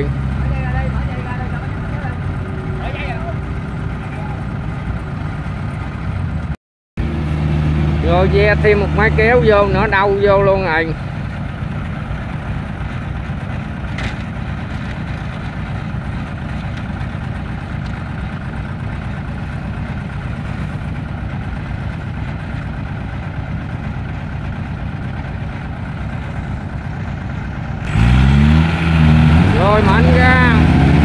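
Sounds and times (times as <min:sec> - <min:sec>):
combine harvester diesel engine: 0:00.0 - 0:31.0.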